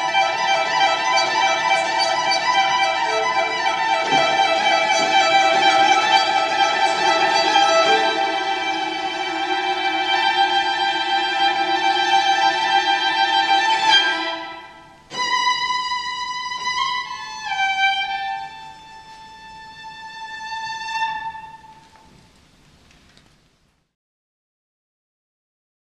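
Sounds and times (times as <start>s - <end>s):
violin playing slow notes: 0.0s - 22.3s.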